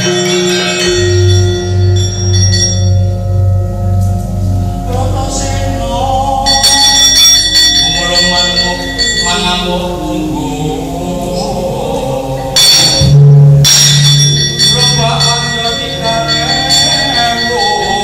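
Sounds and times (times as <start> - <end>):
large gong struck: 0.0 - 10.0, 12.3 - 18.0
metallophones ringing: 0.0 - 18.0.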